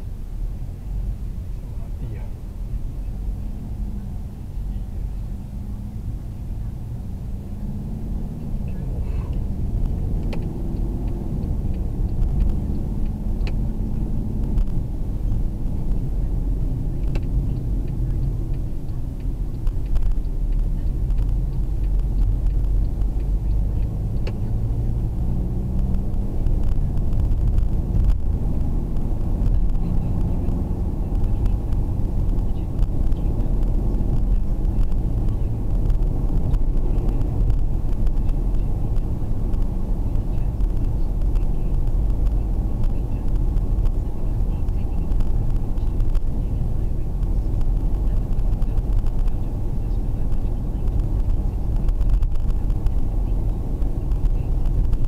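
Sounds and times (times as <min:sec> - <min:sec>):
muffled car engine rumble: 0:00.0 - 0:55.0
road noise: 0:00.0 - 0:55.0.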